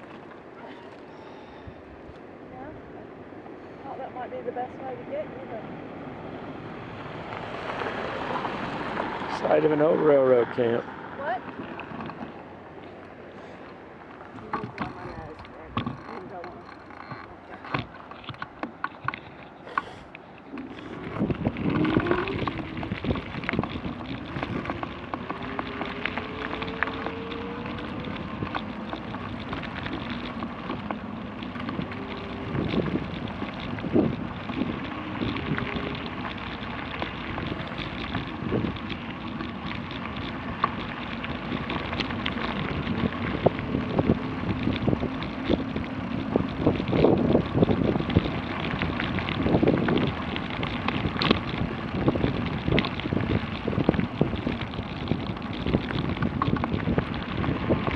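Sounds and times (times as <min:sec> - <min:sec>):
wind buffeting microphone: 0:00.0 - 0:57.9
tyres crunching on gravel: 0:05.8 - 0:57.9.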